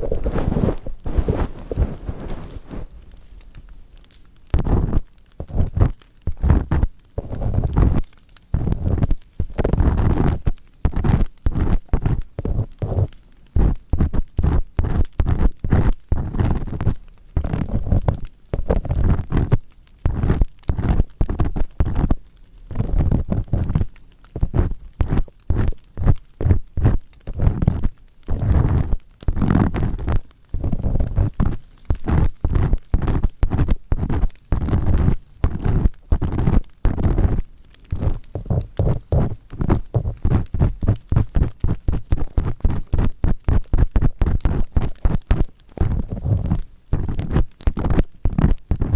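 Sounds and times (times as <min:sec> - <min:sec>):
earpick scraping in ear canal: 0:00.0 - 0:02.9, 0:04.6 - 0:48.9.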